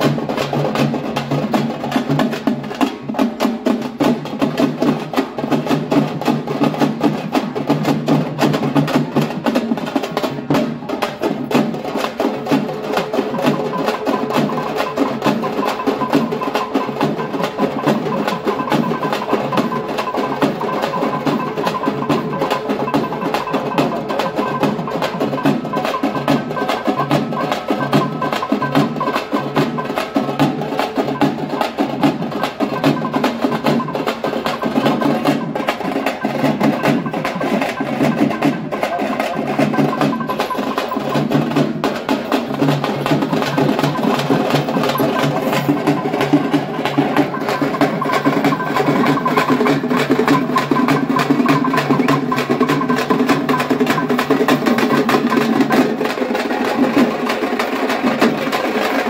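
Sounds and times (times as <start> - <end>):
frame drums beaten with sticks: 0.0 - 59.0.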